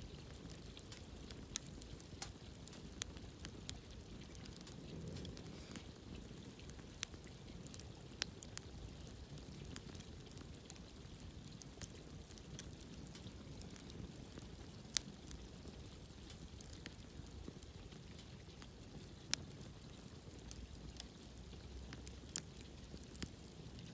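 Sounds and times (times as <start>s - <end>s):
campfire crackling and popping: 0.0s - 23.9s
low rumble of flames: 0.0s - 23.9s.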